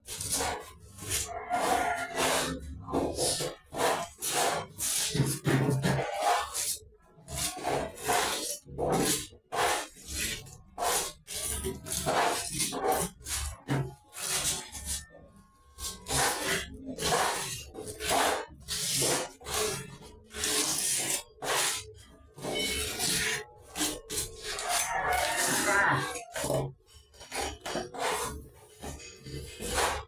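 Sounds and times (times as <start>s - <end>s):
trowel scraping mortar: 0.0s - 15.2s, 15.8s - 30.0s.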